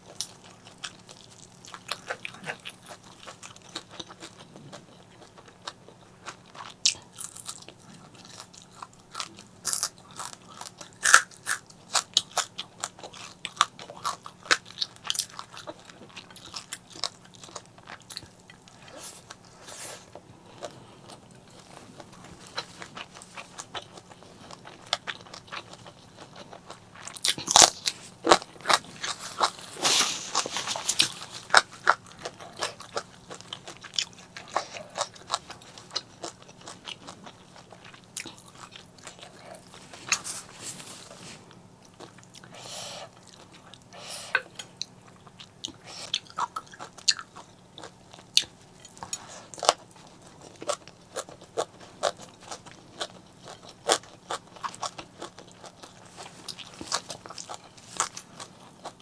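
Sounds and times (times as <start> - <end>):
chewing crunchy fried fish: 0.0 - 59.0.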